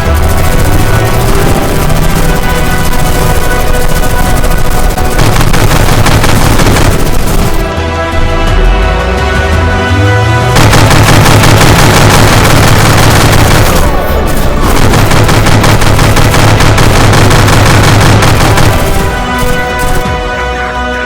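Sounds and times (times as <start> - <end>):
booms: 0.0 - 7.7, 10.6 - 20.1
machine-gun fire: 0.0 - 7.7, 10.6 - 20.1
loud music: 0.0 - 21.0.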